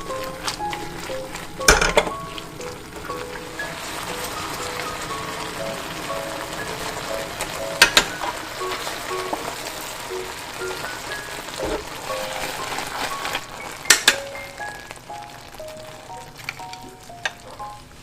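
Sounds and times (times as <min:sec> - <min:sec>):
food sizzling in a frying pan: 0:00.0 - 0:18.0
light background music: 0:00.0 - 0:18.0.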